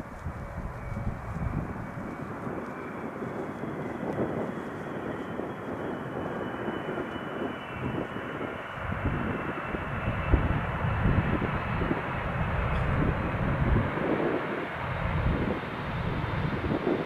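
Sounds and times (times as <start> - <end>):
jet engines rushing with whine: 0.0 - 17.0.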